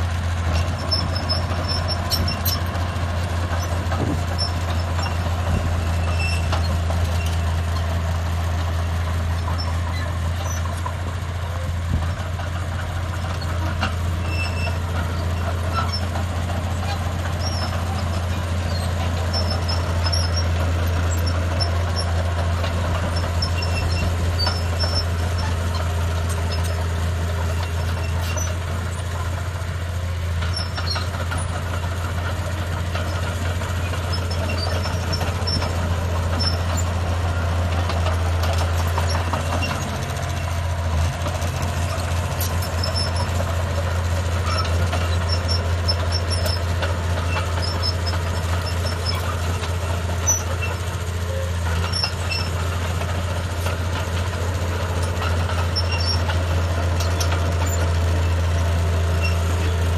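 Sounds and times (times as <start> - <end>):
diesel engine deep drone: 0.0 - 59.9.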